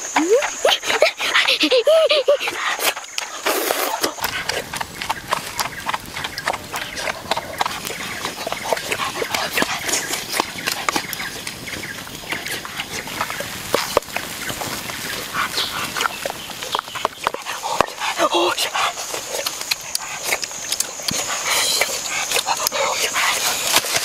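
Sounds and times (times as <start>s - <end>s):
wood fire crackling: 4.2s - 24.0s.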